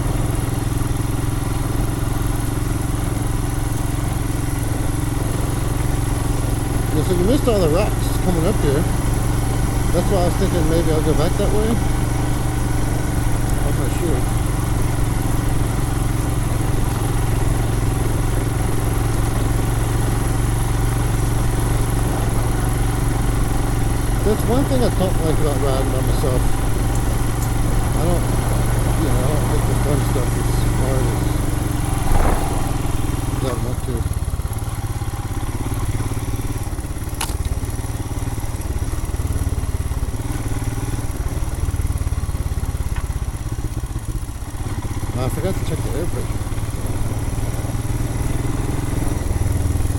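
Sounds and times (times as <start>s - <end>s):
motorcycle engine running steadily: 0.0s - 49.9s.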